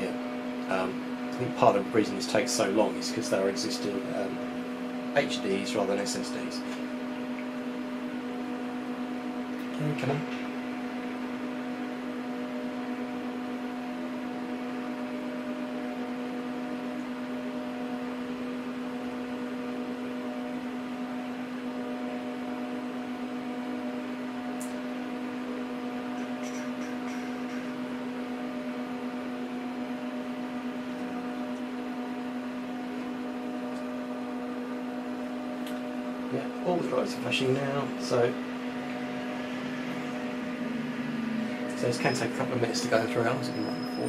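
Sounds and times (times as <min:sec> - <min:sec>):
server cooling fans whirring: 0:00.0 - 0:44.0.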